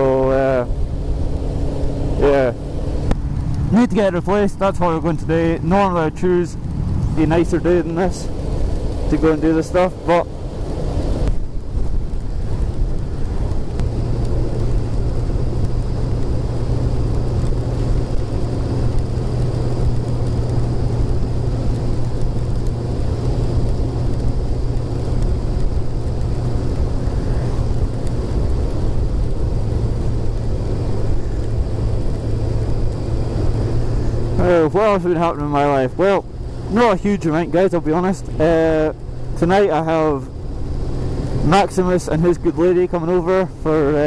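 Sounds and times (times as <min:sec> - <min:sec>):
motorcycle engine cruising: 0:00.0 - 0:44.0
wind and road noise: 0:00.0 - 0:44.0.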